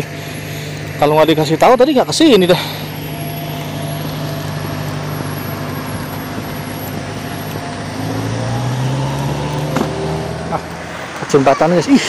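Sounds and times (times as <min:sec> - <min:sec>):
car engine humming: 0:00.0 - 0:12.0
lower engine note rising: 0:00.0 - 0:12.0
road noise: 0:00.0 - 0:12.0.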